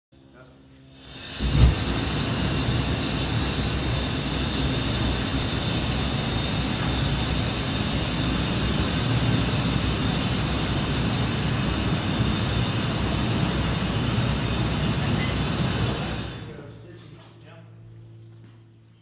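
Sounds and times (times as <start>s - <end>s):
roar of burning gas: 0.9s - 16.5s.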